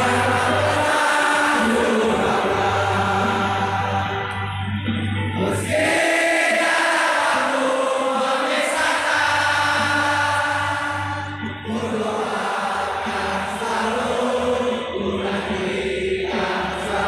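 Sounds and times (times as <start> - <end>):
crowd chanting in unison: 0.0 - 4.3, 5.4 - 17.0.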